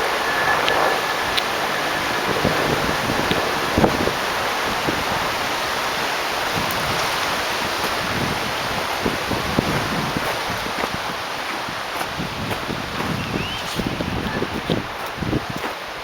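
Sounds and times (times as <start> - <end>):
steady rushing noise: 0.0 - 16.0
wind buffeting microphone: 0.0 - 16.0.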